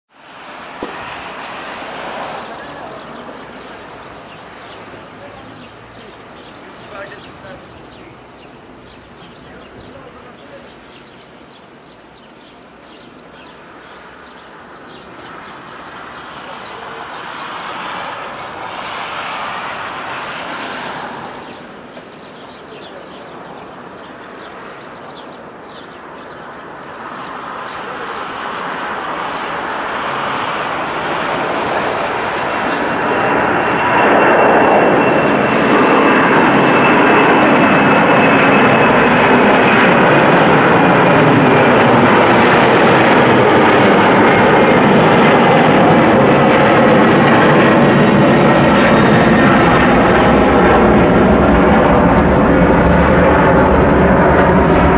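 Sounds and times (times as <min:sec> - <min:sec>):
jet engines rumbling at take-off: 0:00.1 - 0:54.9
thin steady jet whine: 0:00.1 - 0:54.9.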